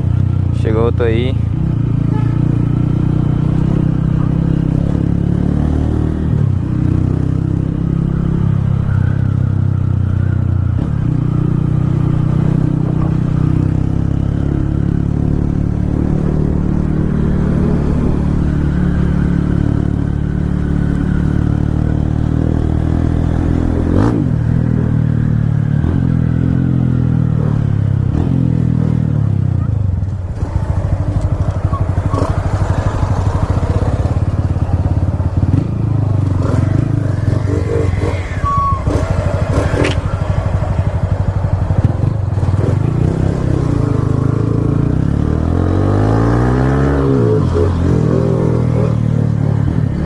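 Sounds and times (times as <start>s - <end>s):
motorcycle engine running: 0.0s - 46.6s.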